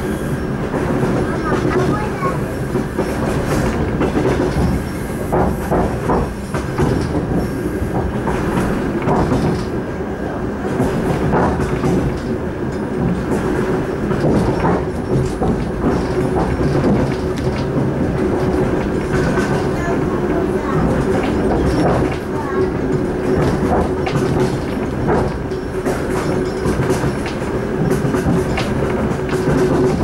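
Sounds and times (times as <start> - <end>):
steady train hum: 0.0 - 30.0
train wheels rumbling on rail: 0.0 - 30.0
clacks over rail joints: 0.6 - 30.0.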